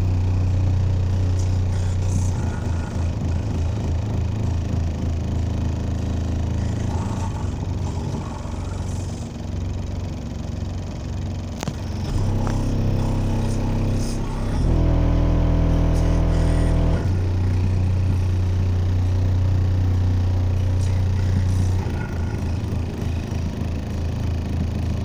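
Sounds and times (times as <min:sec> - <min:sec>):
heavy bass from subwoofers: 0:00.0 - 0:25.0.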